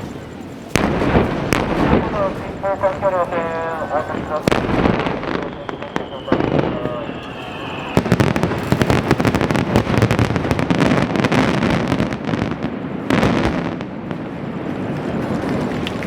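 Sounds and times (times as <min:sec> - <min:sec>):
echoing booms: 0:00.0 - 0:15.3
fireworks bangs and crackle: 0:00.0 - 0:16.0.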